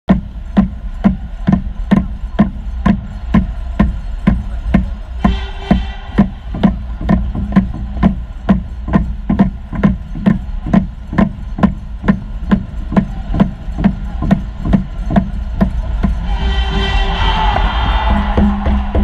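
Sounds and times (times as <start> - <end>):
steady drumbeat: 0.1 - 19.0
arena crowd rumble: 0.2 - 19.0.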